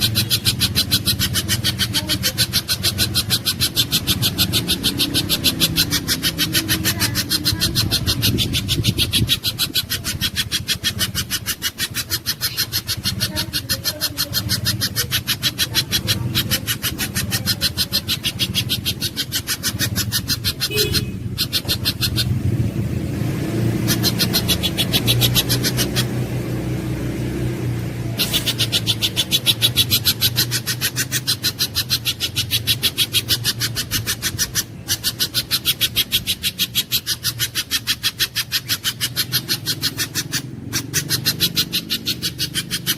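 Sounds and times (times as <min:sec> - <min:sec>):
bird calling with sharp chips: 0:00.0 - 0:42.9.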